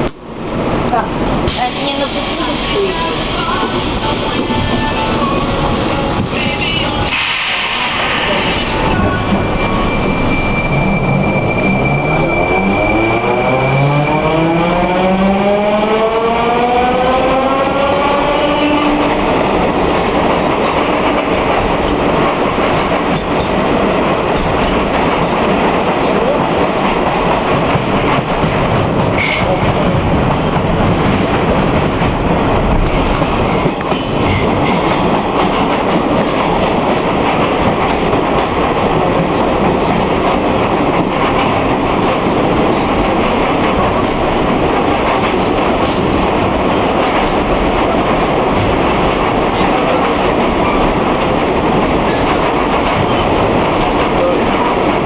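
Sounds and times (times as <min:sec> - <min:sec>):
metro train wheel and rail noise: 0:00.0 - 0:55.0.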